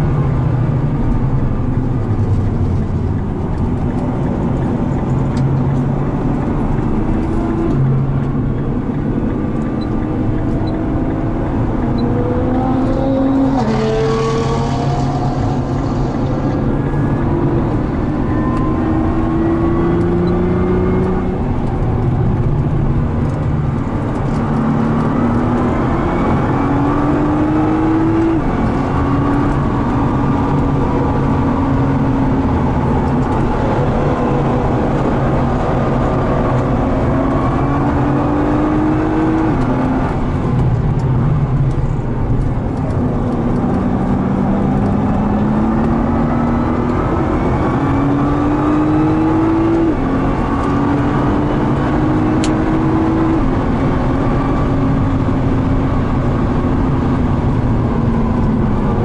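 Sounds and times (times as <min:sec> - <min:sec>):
car engine revving at full throttle: 0:00.0 - 0:59.0.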